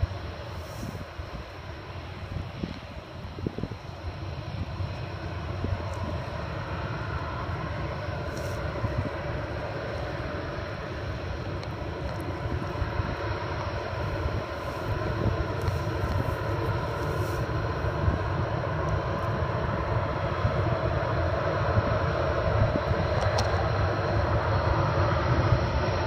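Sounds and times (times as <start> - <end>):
jet engines rumbling with whine: 0.0 - 26.0.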